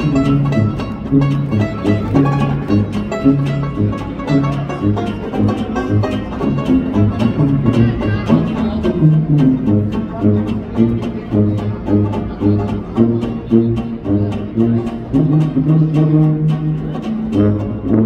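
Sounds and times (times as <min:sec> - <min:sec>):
strummed banjo and guitar chords: 0:00.0 - 0:18.0
tuba bass notes: 0:00.0 - 0:18.0.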